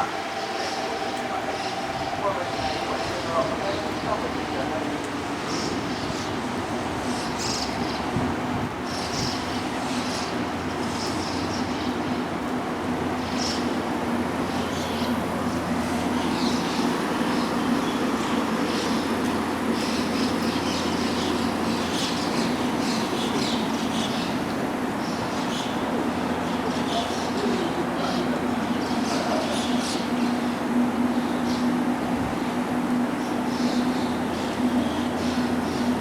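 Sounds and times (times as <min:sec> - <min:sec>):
electric train humming: 0:00.0 - 0:36.0.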